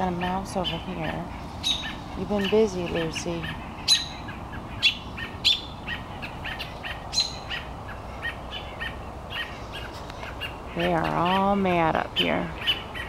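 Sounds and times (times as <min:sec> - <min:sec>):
songbirds alarm calls: 0:00.0 - 0:13.0.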